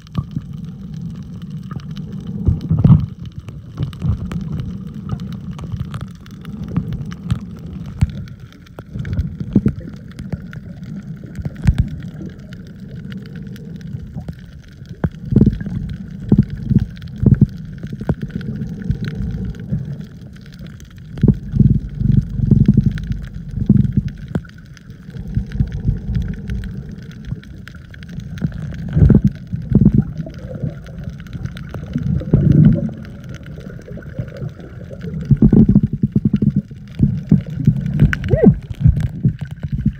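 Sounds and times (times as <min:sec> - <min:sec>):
faint clicks: 0:00.0 - 0:39.9
underwater water sloshing: 0:00.0 - 0:39.9.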